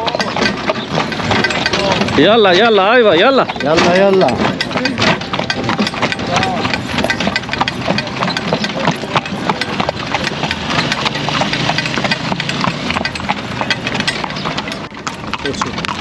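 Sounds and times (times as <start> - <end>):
horse hooves clip-clopping on street: 0.0 - 16.0.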